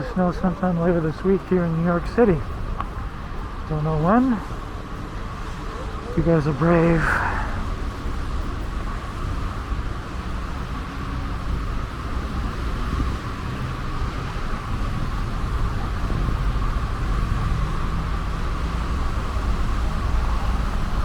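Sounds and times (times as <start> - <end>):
constant hiss: 0.0 - 21.0
rumble of vehicles: 0.0 - 21.0.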